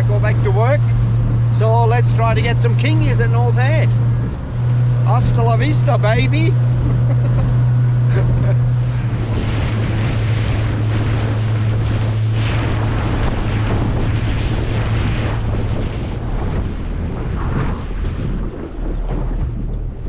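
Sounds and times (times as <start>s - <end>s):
boat motor droning: 0.0s - 20.0s
water rushing past hull: 0.0s - 20.0s
wind buffeting microphone: 0.0s - 20.0s.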